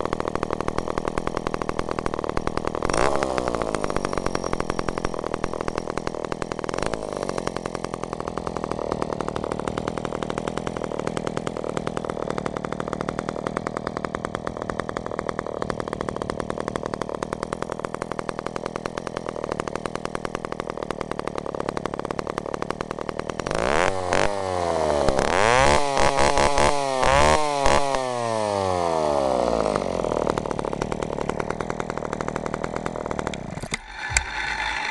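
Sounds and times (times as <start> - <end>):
chainsaw engine idling and revving: 0.0 - 34.9.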